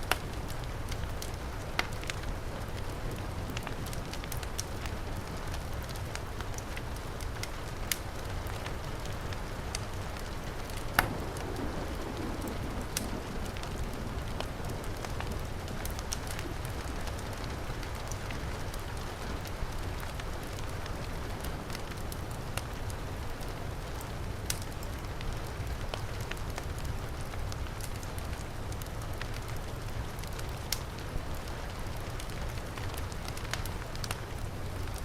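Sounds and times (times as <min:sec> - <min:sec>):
fireplace fire crackling: 0:00.0 - 0:35.0
heavy rain falling: 0:00.0 - 0:35.0.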